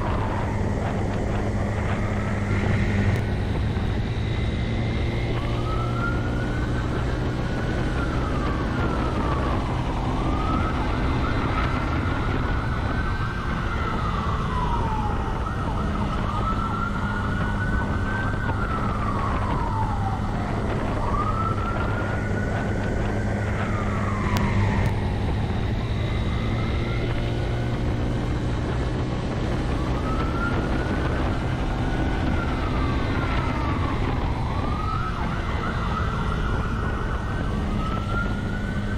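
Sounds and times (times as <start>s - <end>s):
police siren slow wail: 0.0s - 38.9s
vehicle engine drone: 0.0s - 38.9s.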